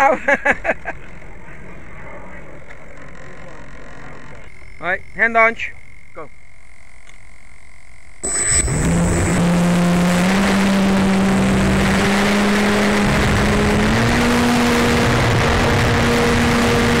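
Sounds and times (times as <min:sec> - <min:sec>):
electric motor buzzing: 0:02.9 - 0:17.0.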